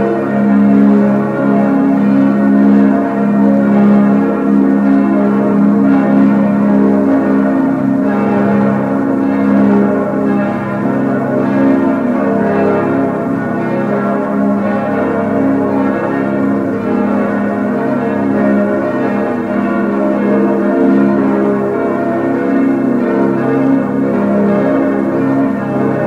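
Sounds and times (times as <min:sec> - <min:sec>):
church bells pealing: 0:00.0 - 0:26.0.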